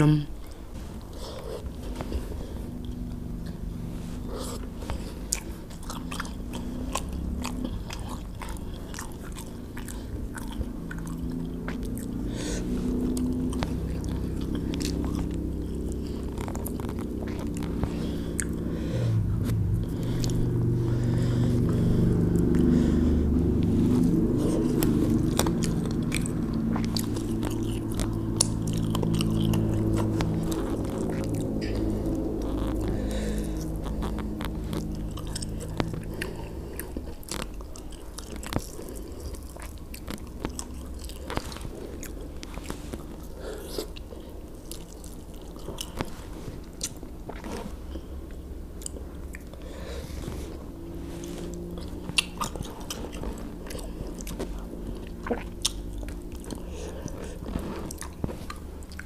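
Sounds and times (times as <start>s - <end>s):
person chewing food: 0.0s - 59.0s
wet mouth clicks and smacks: 4.6s - 21.0s, 23.6s - 47.5s, 48.3s - 49.6s, 51.5s - 59.0s.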